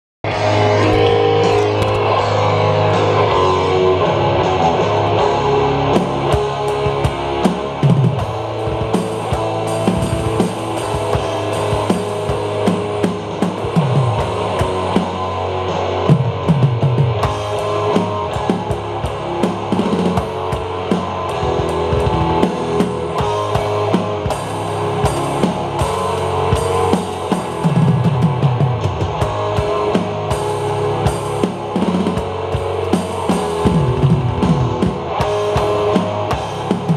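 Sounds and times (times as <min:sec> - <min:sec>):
distorted guitar and bass: 0:00.2 - 0:36.9
recorded rock song: 0:00.2 - 0:36.9
drum kit playing: 0:00.3 - 0:36.9.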